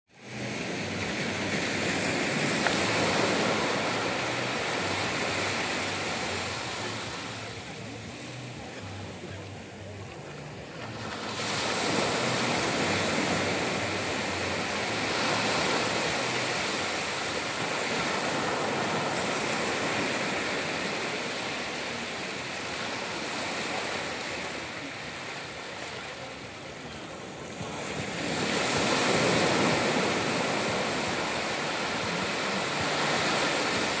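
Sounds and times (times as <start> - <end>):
small waves breaking on beach: 0.1 - 34.0.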